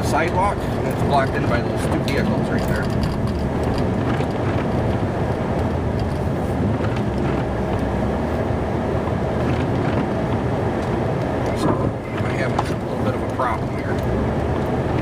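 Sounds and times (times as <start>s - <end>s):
truck low rumble: 0.0s - 15.0s.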